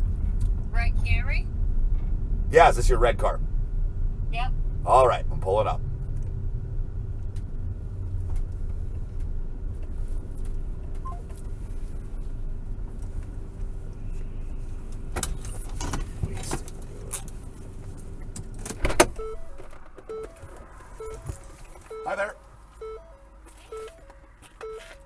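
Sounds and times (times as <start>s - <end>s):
van engine and road rumble: 0.0s - 25.0s.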